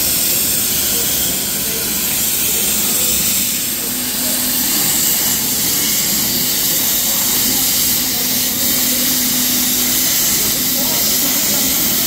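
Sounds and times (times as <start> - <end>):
plasma torch hissing: 0.0 - 12.0.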